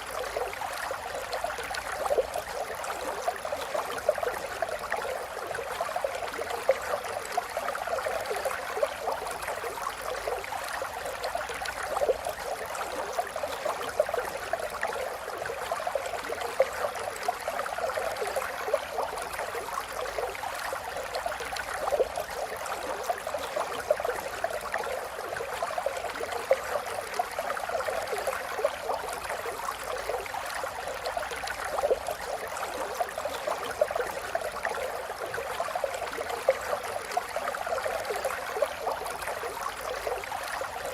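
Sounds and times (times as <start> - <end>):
river water babbling: 0.0 - 40.9.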